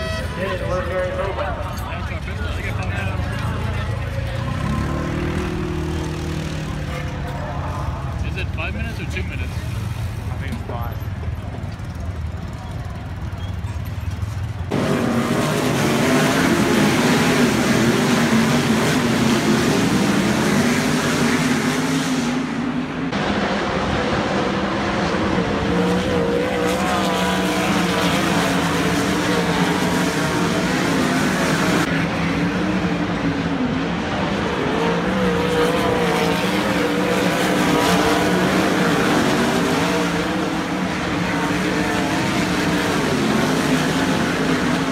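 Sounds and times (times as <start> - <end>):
racing car engines at high revs: 0.8 - 10.9, 14.1 - 44.9.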